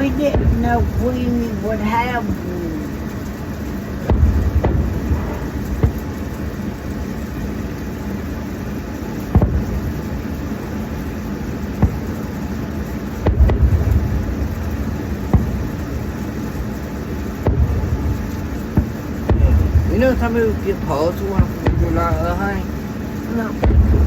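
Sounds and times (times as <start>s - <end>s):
deep rumbling firework burst: 0.0s - 24.0s
distant fireworks bangs: 0.0s - 24.0s
steady low hum: 0.0s - 24.0s.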